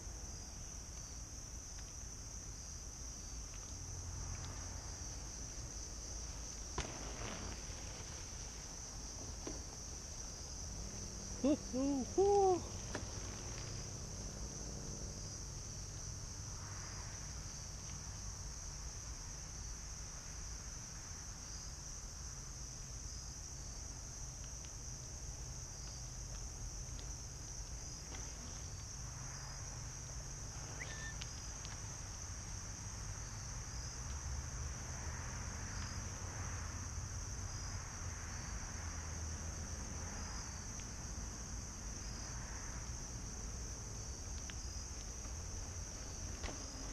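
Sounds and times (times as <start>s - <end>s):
insect chorus drone: 0.0s - 46.9s.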